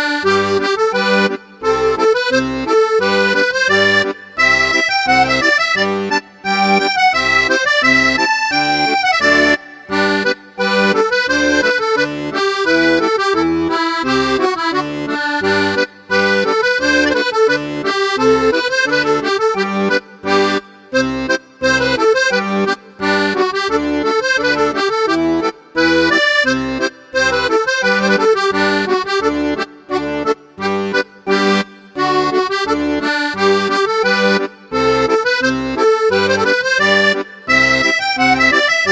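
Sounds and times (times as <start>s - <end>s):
accordion music: 0.0s - 38.9s.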